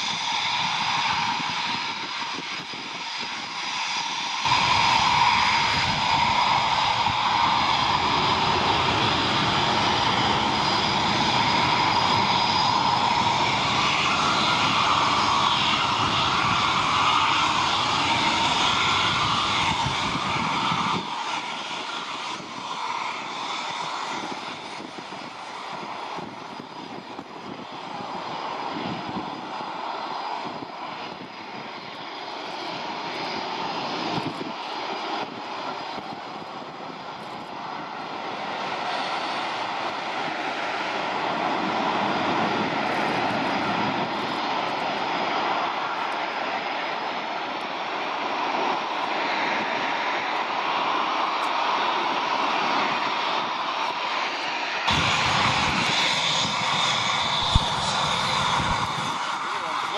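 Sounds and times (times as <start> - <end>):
military jet taking off: 0.0 - 59.9.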